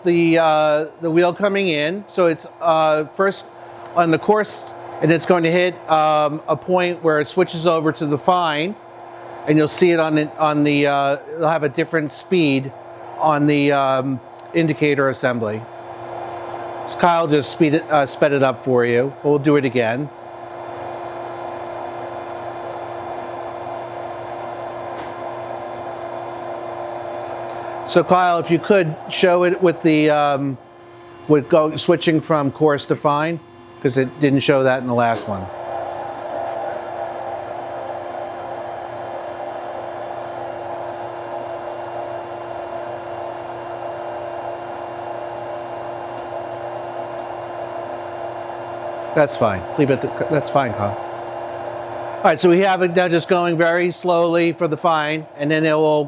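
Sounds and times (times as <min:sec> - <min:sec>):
grinder machine hum: 0:00.0 - 0:56.0.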